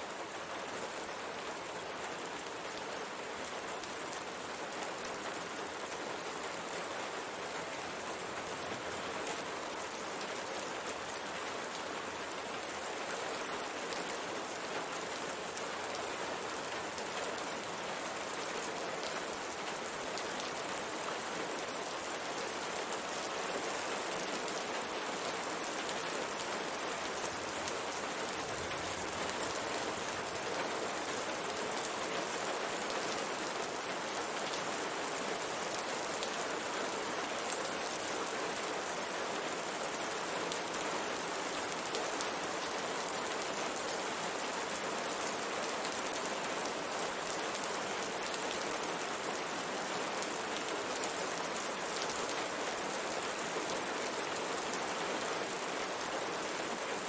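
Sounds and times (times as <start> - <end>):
rain pattering on a window: 0.1 - 57.0.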